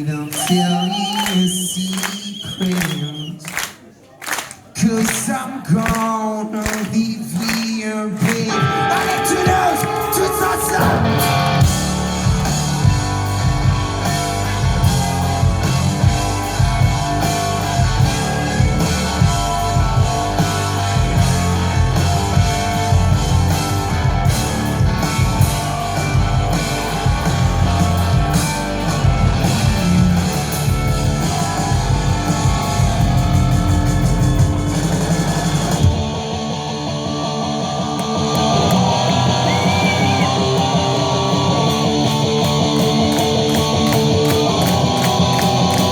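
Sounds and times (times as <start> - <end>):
rock band playing live: 6.7 - 45.9
ringing electric guitar: 8.5 - 45.9.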